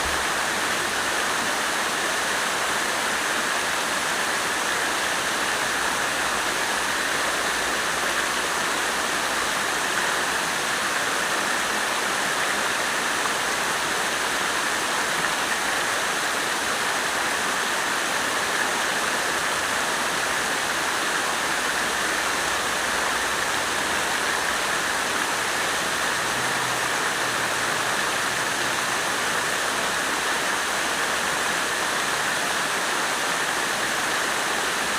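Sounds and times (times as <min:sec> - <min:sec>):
water fountain splashing: 0:00.0 - 0:34.9.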